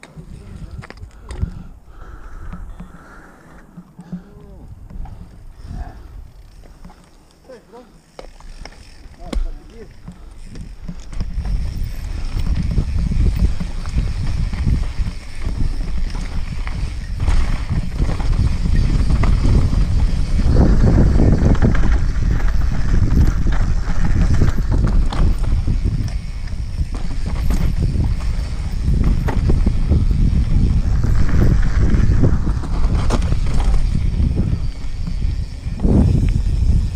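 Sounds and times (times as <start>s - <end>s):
wind buffeting microphone: 0.0s - 6.9s, 8.4s - 36.9s
bike rattling over roots and stones: 4.1s - 36.9s.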